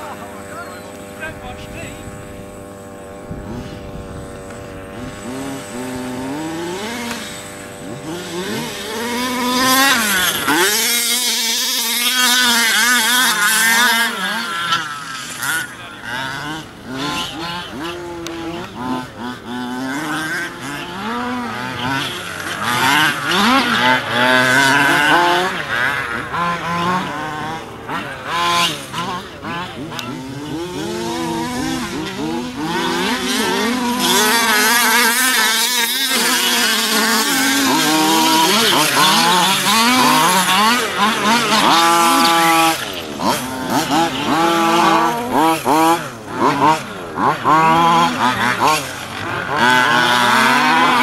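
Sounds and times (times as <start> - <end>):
two-stroke engine revving: 0.0 - 51.0.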